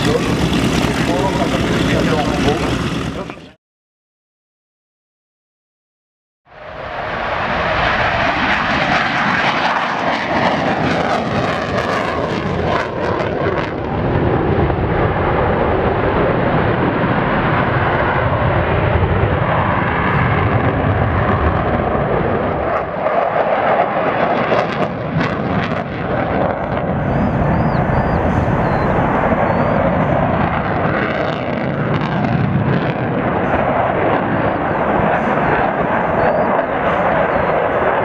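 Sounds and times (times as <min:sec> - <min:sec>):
jet engine roar: 0:00.0 - 0:03.6, 0:06.5 - 0:38.0
jet engine crackle: 0:06.6 - 0:38.0.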